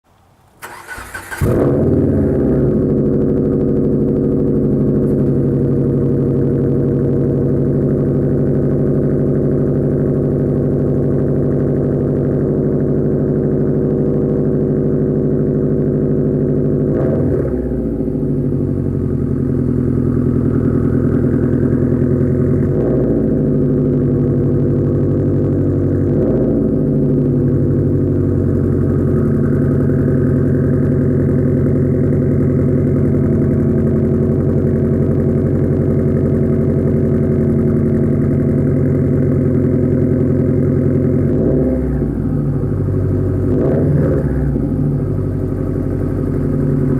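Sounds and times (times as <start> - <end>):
car engine idling: 0.1 - 46.9.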